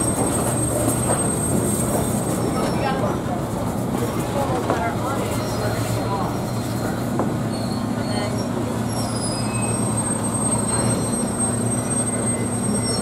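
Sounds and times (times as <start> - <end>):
diesel locomotive engine drone: 0.0 - 13.0
rail noise: 0.0 - 13.0.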